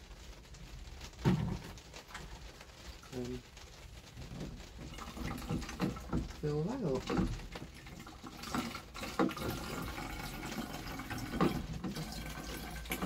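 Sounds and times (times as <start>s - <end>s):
water running into plastic bottle: 0.0s - 13.0s.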